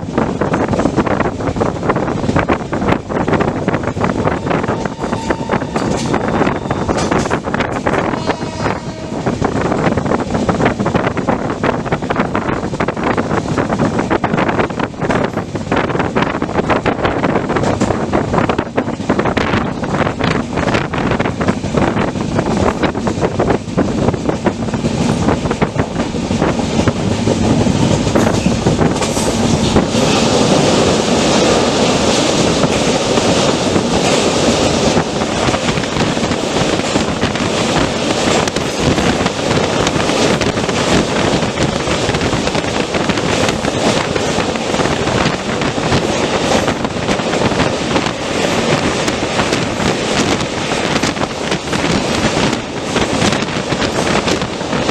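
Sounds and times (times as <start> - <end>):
train coaches rattling on track: 0.0 - 54.9.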